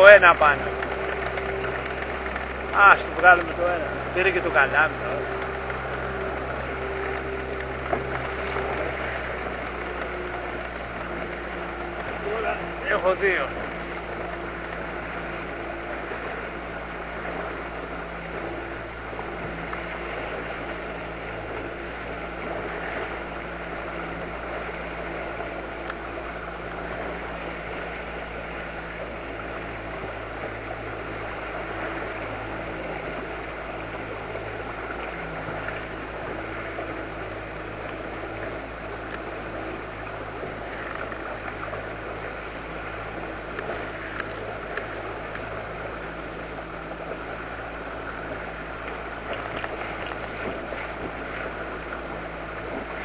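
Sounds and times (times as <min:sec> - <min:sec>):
outboard motor humming: 0:00.0 - 0:53.0
water rushing past hull: 0:00.0 - 0:53.0.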